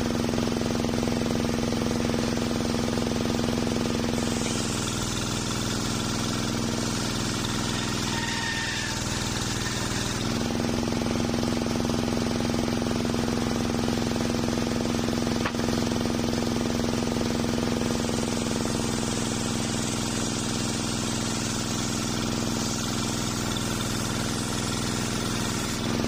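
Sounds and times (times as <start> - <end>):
sawmill blade cutting log: 0.0 - 26.0.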